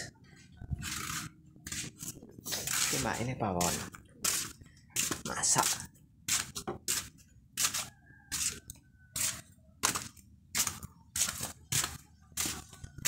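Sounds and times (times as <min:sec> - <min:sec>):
footsteps on gritty floor: 0:00.3 - 0:13.0.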